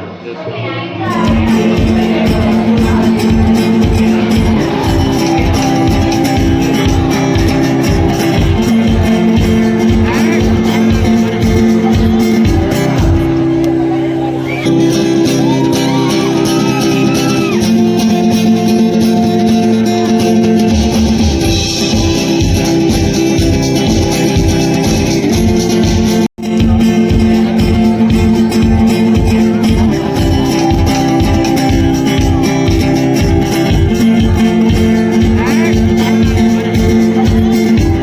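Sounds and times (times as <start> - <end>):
guitar-led background music: 1.1 - 38.0
steady beat: 1.1 - 38.0.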